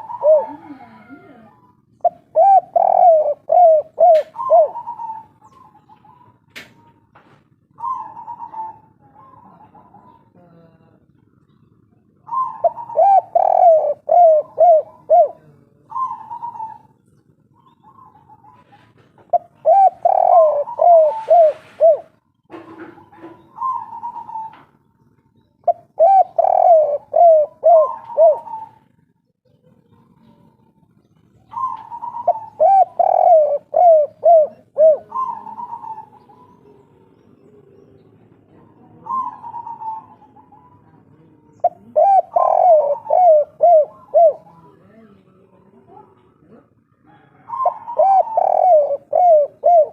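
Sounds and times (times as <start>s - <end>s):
dove cooing: 0.0s - 25.0s, 25.6s - 49.9s.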